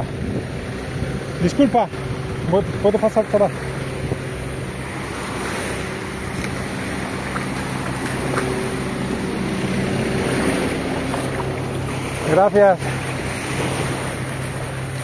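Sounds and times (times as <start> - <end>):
diesel engine running: 0.0 - 15.0
small waves washing on sand: 0.0 - 15.0.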